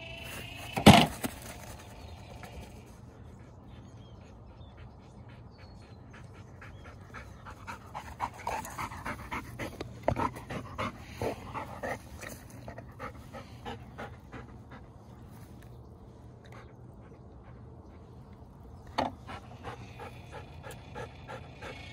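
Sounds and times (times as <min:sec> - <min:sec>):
dog panting: 0:02.4 - 0:15.7, 0:16.4 - 0:21.9.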